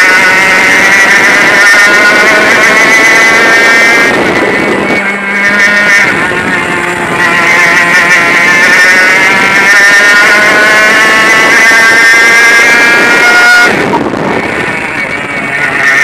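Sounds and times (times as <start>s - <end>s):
two-stroke kart engine revving: 0.0s - 16.0s.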